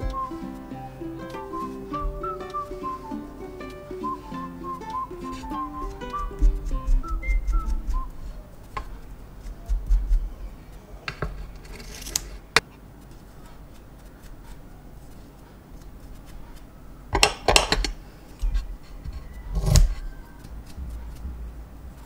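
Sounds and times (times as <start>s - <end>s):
brush scratching through fibre: 0.1s - 12.2s, 12.9s - 16.8s, 18.6s - 21.6s.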